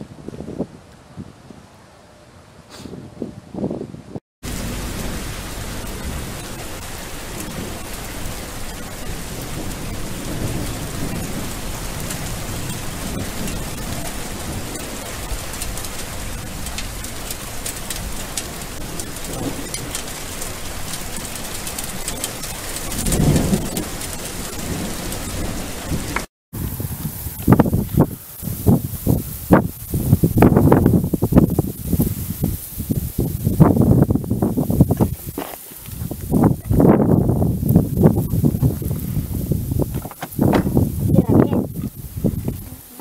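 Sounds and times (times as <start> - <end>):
low rumbling: 3.3 - 42.9
rain falling on leaves: 4.4 - 43.0.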